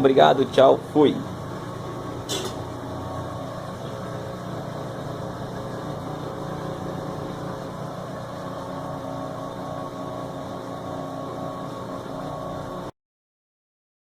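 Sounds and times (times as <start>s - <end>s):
washing machine spinning: 0.0s - 12.9s.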